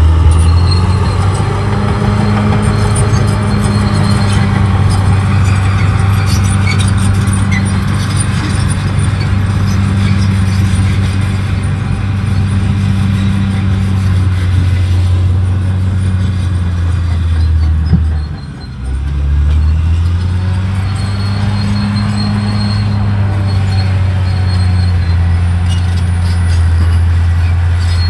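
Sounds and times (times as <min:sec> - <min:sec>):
bulldozer diesel engine: 0:00.0 - 0:28.0.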